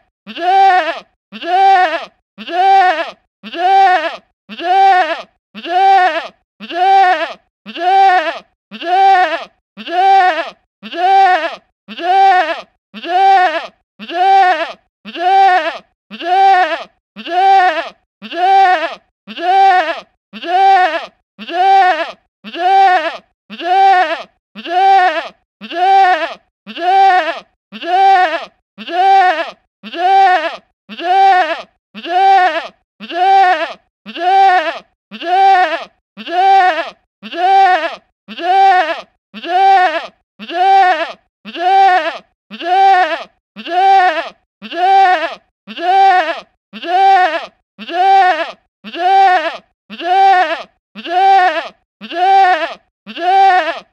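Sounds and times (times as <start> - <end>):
goat bleating: 0.3 - 53.9.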